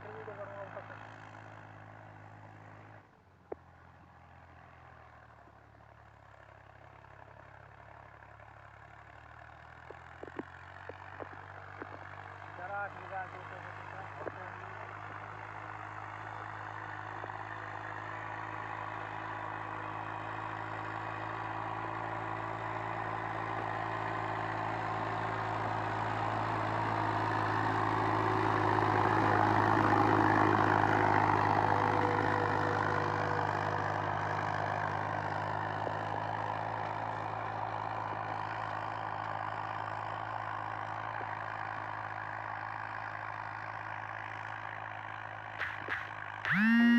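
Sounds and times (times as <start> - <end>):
tractor driving by: 0.0 - 46.9.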